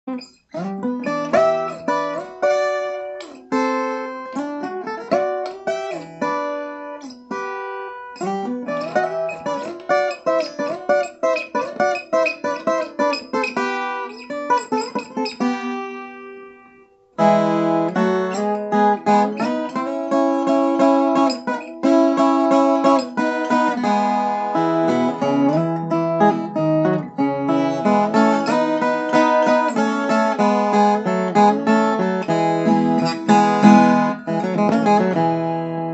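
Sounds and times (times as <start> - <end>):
picked guitar melody: 0.0 - 35.9
strummed guitar passage: 0.0 - 35.9.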